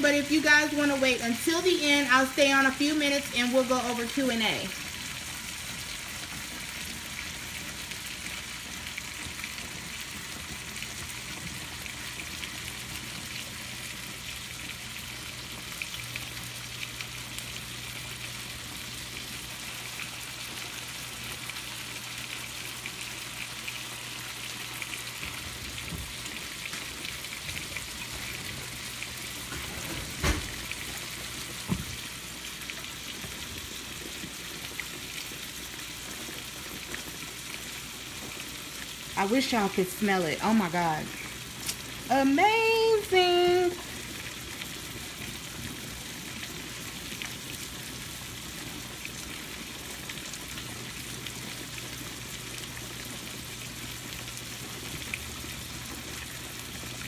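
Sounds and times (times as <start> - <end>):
food sizzling in skillets: 0.0 - 57.0.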